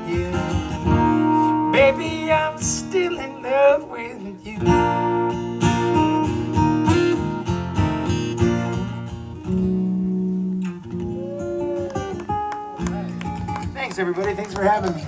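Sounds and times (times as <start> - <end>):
acoustic guitar strummed chords: 0.0 - 13.8.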